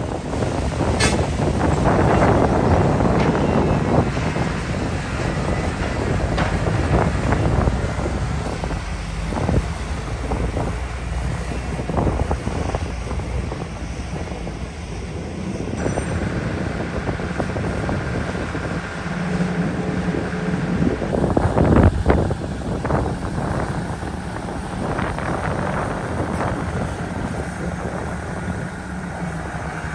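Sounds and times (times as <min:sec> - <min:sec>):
diesel machinery running: 0:00.0 - 0:29.9
wind buffeting microphone: 0:00.0 - 0:29.9.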